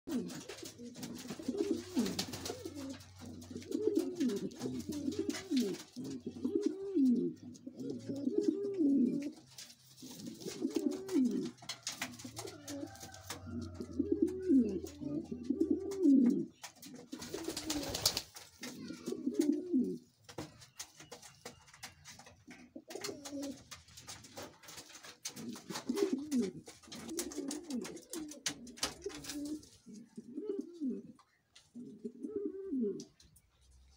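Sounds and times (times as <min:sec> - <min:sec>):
pigeons cooing: 0:00.1 - 0:20.5, 0:21.8 - 0:33.2.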